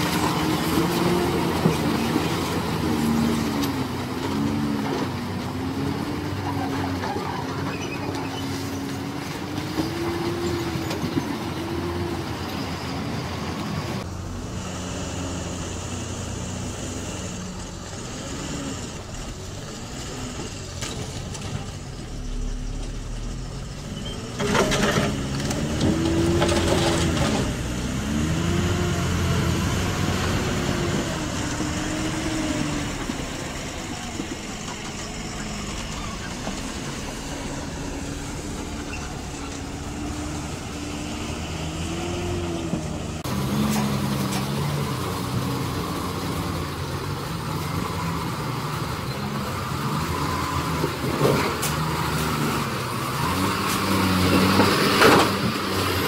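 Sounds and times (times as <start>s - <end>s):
truck diesel engines revving: 0.0s - 56.0s.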